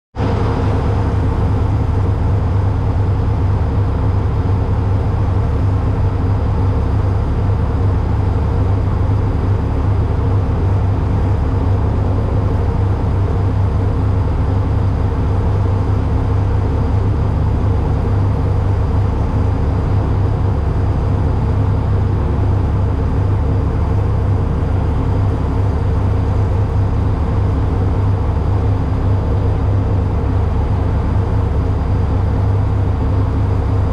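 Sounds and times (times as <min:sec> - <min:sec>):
truck engine running: 0:00.2 - 0:33.9.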